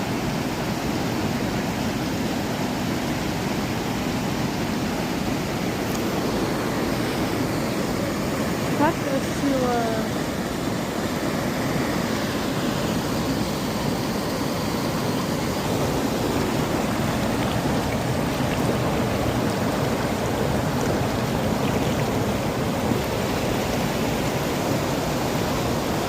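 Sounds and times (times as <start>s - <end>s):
waterfall roar: 0.0s - 26.0s.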